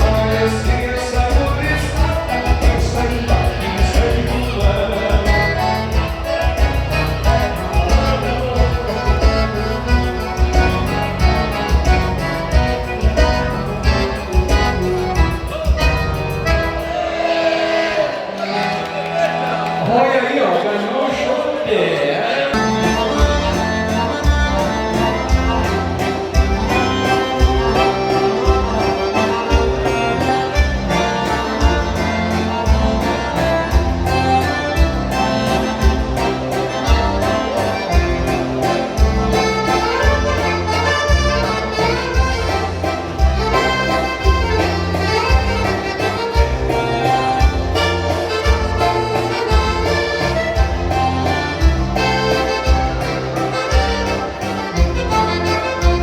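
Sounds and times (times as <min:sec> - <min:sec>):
bass and drum beat: 0:00.0 - 0:16.9, 0:22.6 - 0:56.0
accordion dance music: 0:00.0 - 0:56.0.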